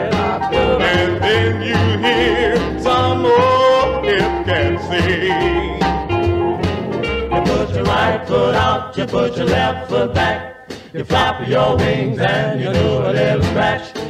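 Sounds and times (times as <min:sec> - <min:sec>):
rhythm and blues music: 0:00.0 - 0:14.0.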